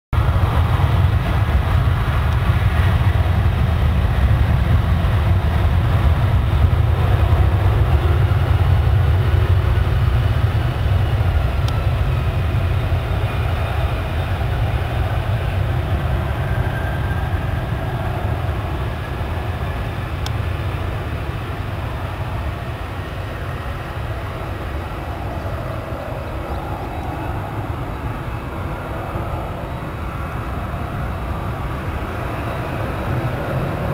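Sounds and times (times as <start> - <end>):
distant jet engines rumbling: 0.2 - 33.9.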